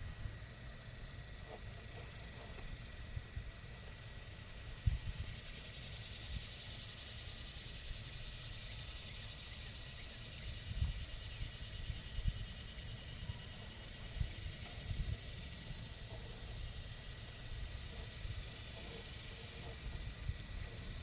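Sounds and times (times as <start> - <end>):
steady high hiss: 0.0 - 21.0.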